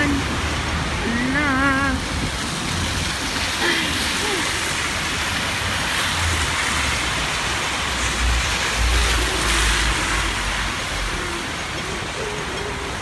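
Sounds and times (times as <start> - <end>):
steady rain: 0.0 - 13.0
tyres hissing through water: 0.0 - 13.0.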